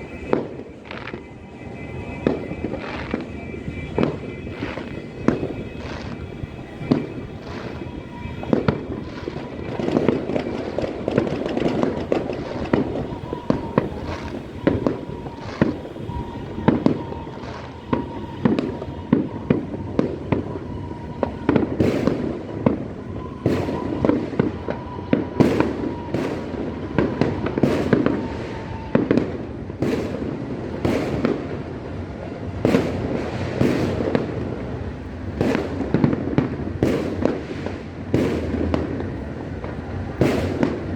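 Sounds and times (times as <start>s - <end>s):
distant fireworks rumble and crackle: 0.0s - 40.9s
firecracker bangs: 0.0s - 40.9s.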